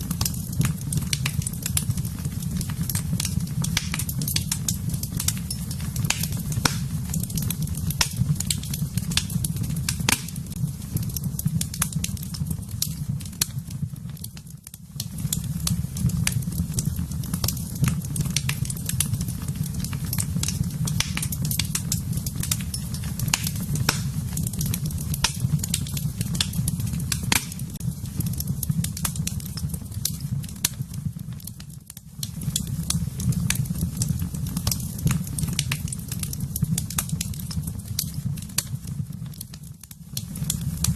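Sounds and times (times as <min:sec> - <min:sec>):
fire crackles and pops: 0:00.0 - 0:40.9
low rumble of flames: 0:00.0 - 0:40.9.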